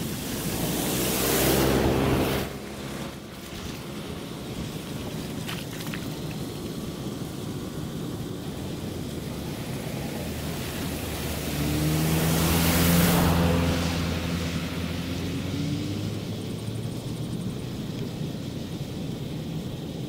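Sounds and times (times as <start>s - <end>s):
bus engine approaching: 0.0s - 20.0s
steady low rumble: 0.0s - 20.0s.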